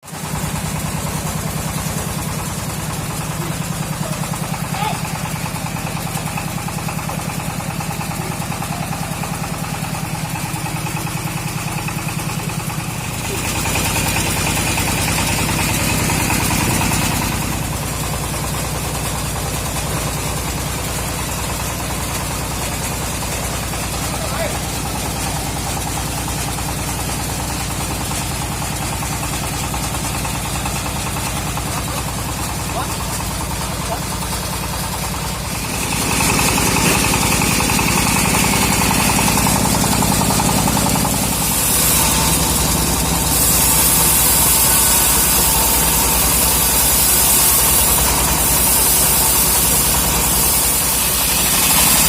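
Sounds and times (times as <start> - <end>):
engine idling with chugging beat: 0.0 - 52.0.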